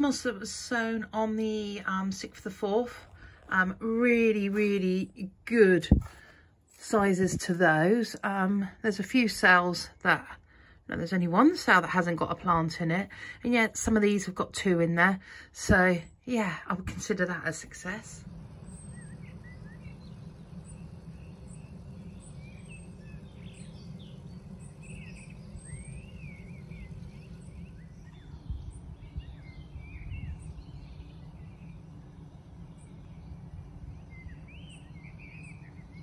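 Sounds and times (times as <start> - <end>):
songbirds chirping: 0.0 - 36.0
steady low rumble: 0.0 - 36.0.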